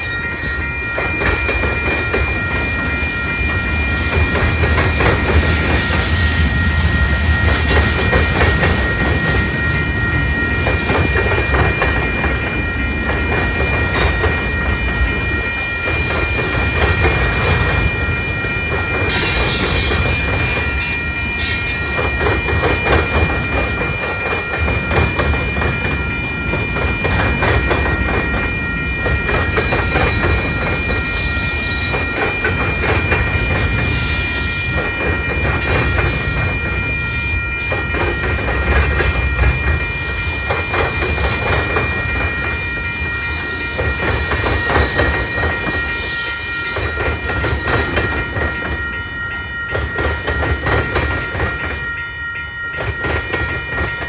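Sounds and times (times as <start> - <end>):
freight train rumbling past: 0.0 - 54.0
steady high tones: 0.0 - 54.0.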